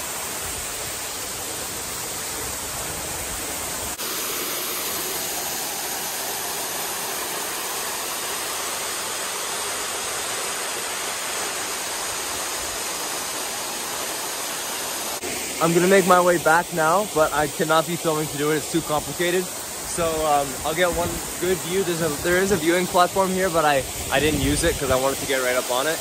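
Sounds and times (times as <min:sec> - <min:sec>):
waterfall pouring: 0:00.0 - 0:26.0.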